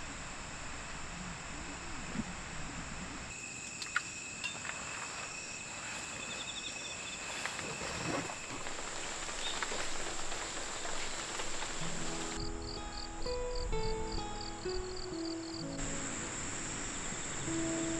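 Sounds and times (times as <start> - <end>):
background hiss: 0.0 - 17.9
crickets chirping: 0.0 - 17.9.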